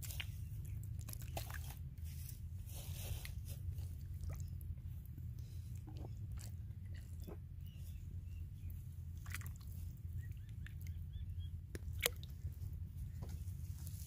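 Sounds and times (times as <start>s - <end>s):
wet splashes and squelches: 0.0s - 7.5s, 8.7s - 12.7s
steady low rumble: 0.0s - 14.0s.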